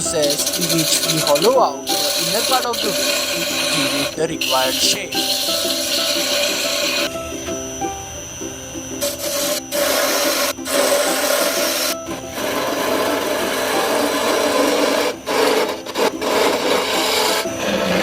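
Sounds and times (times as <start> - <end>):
lathe tool scraping wood: 0.0 - 18.0.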